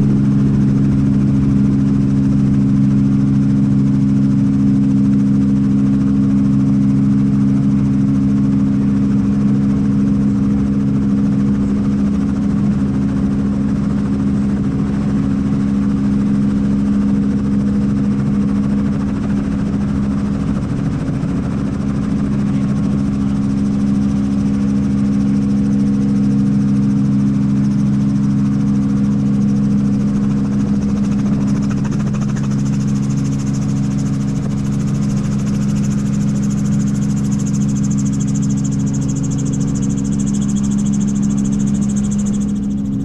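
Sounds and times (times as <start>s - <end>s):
helicopter engine and rotors: 0.0s - 43.0s.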